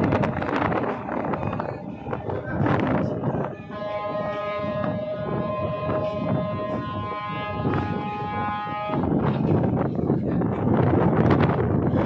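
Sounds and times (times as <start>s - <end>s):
ship's horn long blast: 0.0s - 9.8s
low rumble of ship: 0.0s - 12.0s
wind noise: 0.0s - 12.0s.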